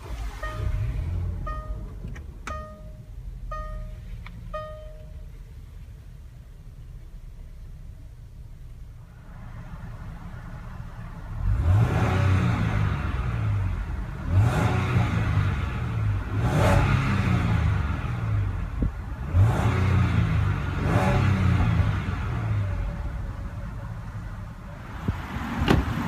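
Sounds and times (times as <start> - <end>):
car engine revving: 0.0 - 5.7, 9.0 - 26.0.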